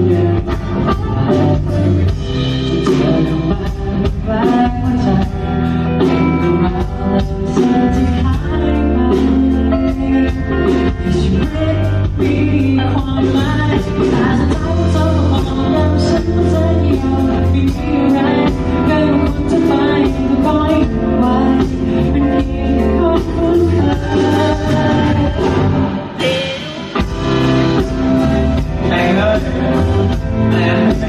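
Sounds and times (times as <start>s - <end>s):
heavy bass: 0.0s - 31.0s
live band playing: 0.0s - 31.0s
person singing: 0.0s - 31.0s.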